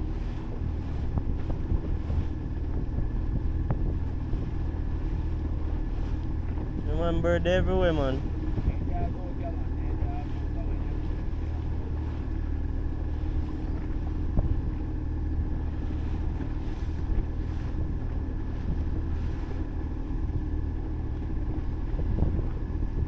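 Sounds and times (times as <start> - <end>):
boat engine running: 0.0 - 23.0
wind buffeting microphone: 0.0 - 23.0.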